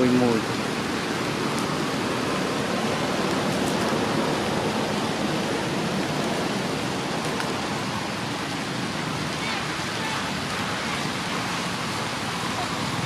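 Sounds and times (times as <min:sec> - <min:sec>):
steady rushing hiss: 0:00.0 - 0:13.0.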